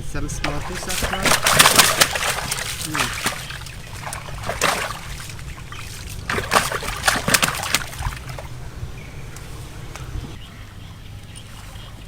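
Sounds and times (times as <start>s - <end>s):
water splashing and sloshing: 0.4s - 12.0s.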